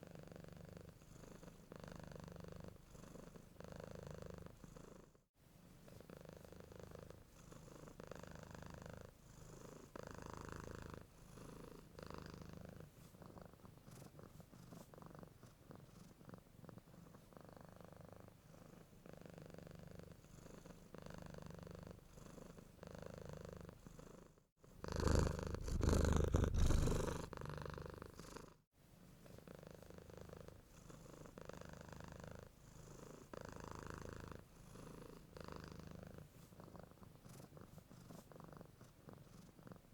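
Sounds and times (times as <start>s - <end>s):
cat purring: 0.0s - 5.2s, 5.8s - 39.9s.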